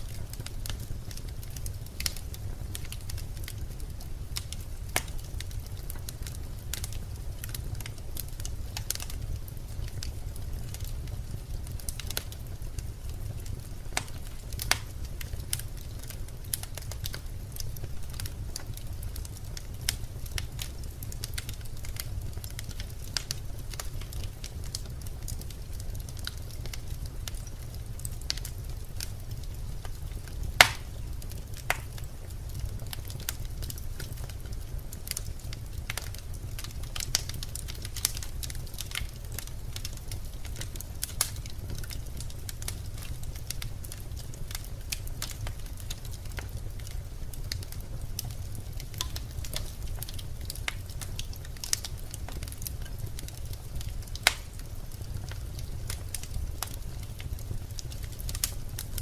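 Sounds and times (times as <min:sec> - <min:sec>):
logs crackling and popping in fire: 0:00.0 - 0:59.0
loud fire snap: 0:00.0 - 0:59.0.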